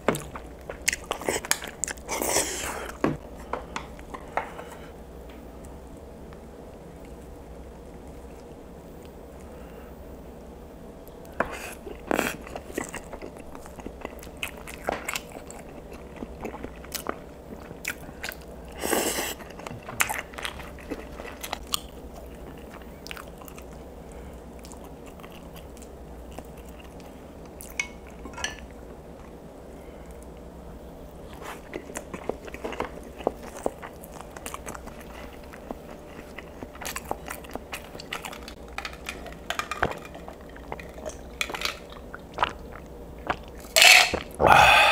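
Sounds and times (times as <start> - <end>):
biting and wet chewing: 0.0 - 4.8, 11.1 - 29.4, 31.2 - 44.9.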